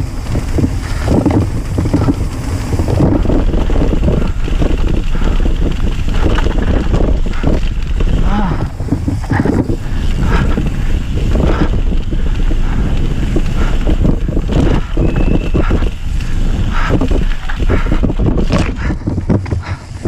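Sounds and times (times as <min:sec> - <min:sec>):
bike knocking and rattling: 0:00.0 - 0:20.0
tyres on dirt: 0:00.0 - 0:20.0
wind buffeting microphone: 0:00.0 - 0:20.0.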